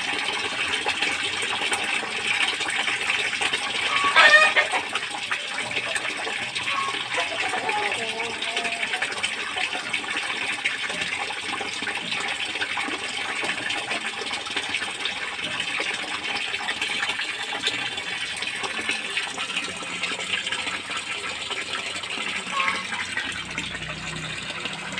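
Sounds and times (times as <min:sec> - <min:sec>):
water running and splashing in tank: 0:00.0 - 0:24.9.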